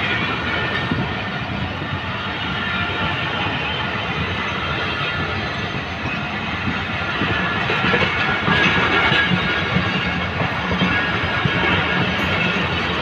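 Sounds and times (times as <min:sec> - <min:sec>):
train wheels rumbling and clacking: 0:00.0 - 0:13.0.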